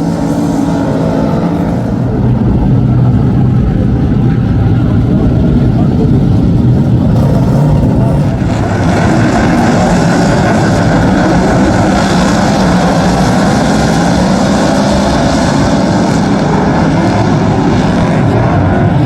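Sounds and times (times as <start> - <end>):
race car engines roaring: 0.0 - 19.0.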